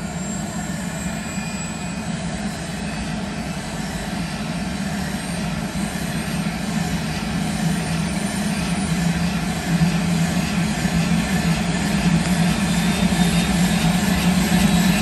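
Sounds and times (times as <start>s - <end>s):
helicopter idling: 0.0s - 15.0s.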